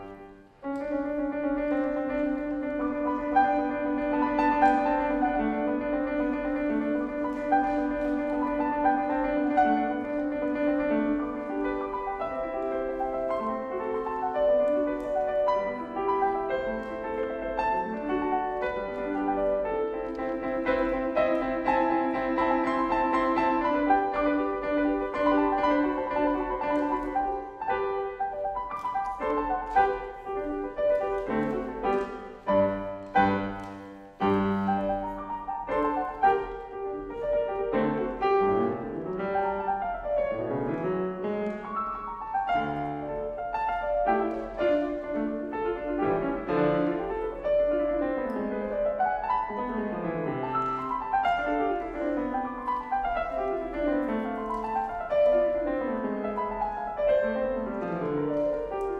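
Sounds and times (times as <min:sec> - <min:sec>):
grand piano playing: 0:00.0 - 0:58.9.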